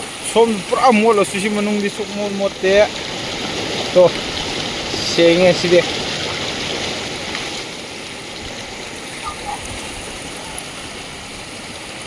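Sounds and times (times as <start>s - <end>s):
rainwater runoff rushing: 0.0s - 12.0s.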